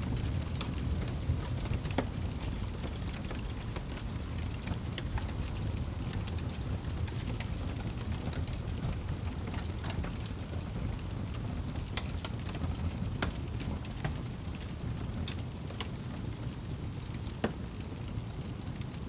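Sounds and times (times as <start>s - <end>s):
fire burning in a fireplace: 0.0s - 19.0s
fire crackles and pops: 0.0s - 19.0s.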